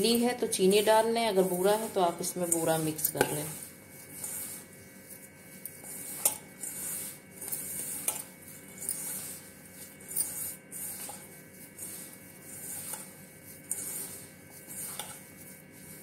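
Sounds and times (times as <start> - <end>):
fingers brushing steel bowl: 0.0 - 16.0
hands rubbing flour mix: 0.0 - 16.0.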